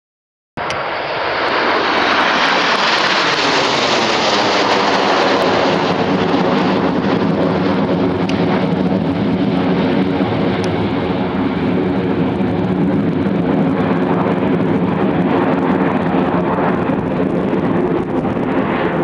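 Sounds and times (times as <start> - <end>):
jet aircraft flying overhead: 0.6 - 19.0.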